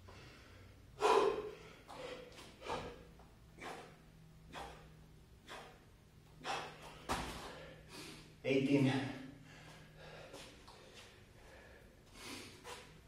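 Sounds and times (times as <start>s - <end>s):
man breathing heavily: 0.0s - 8.4s, 9.2s - 13.0s.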